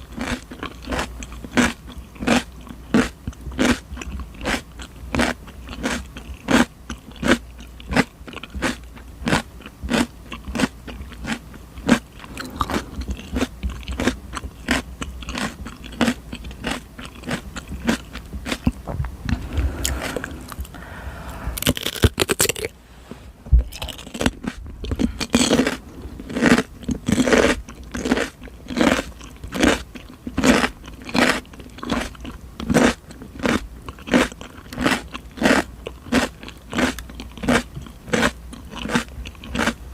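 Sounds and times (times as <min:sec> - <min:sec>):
chewing raw cucumber: 0:00.0 - 0:20.8, 0:21.6 - 0:22.8, 0:23.6 - 0:39.9.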